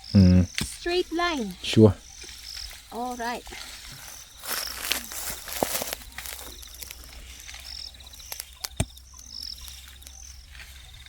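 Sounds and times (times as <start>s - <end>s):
insects chirping: 0.0s - 11.0s
pulsing insect trill: 0.0s - 11.0s.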